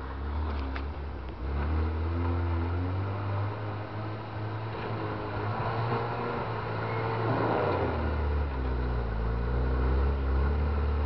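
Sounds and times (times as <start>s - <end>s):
engine running in slushy snow: 0.0s - 11.0s.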